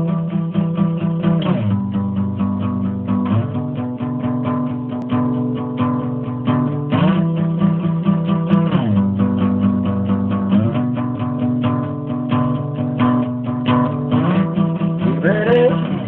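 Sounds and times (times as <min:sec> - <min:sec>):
acoustic guitar picking chords: 0:00.0 - 0:16.0.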